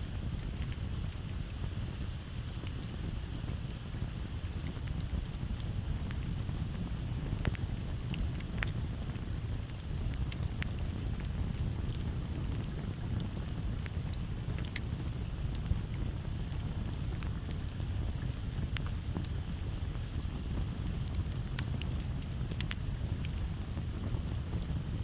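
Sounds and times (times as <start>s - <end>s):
campfire crackling and popping: 0.0s - 25.0s
low steady rumble: 0.0s - 25.0s.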